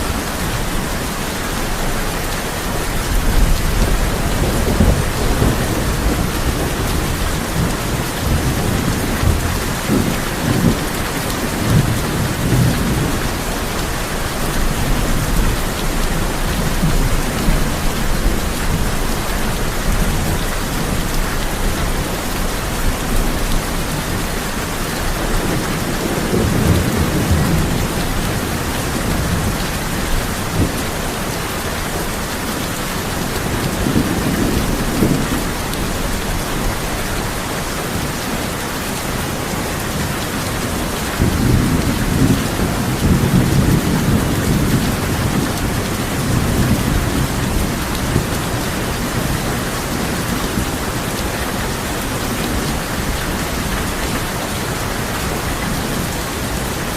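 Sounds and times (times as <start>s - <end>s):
heavy rain on a tin roof: 0.0s - 56.9s
low thunder rumbling: 2.6s - 31.4s, 40.0s - 56.8s.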